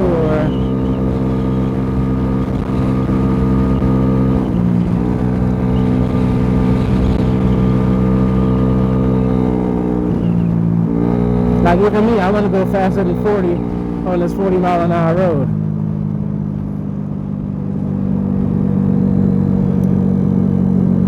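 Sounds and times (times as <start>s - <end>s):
scooter engine running: 0.0s - 21.0s.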